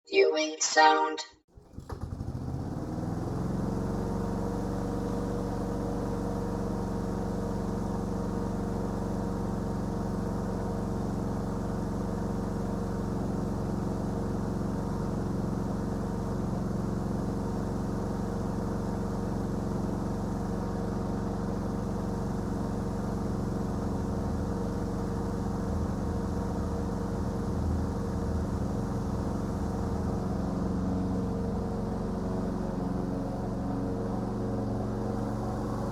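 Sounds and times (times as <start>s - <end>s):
lawn mower engine: 1.6s - 35.9s.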